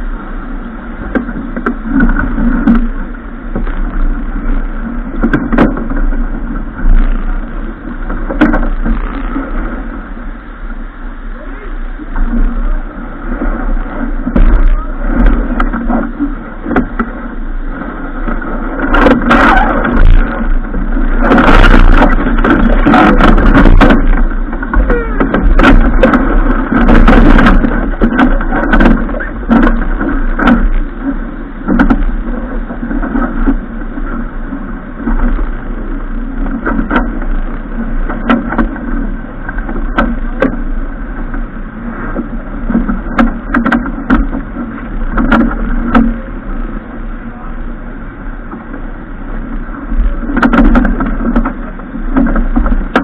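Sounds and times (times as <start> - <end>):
rushing noise aboard sailboat: 0.0 - 53.0.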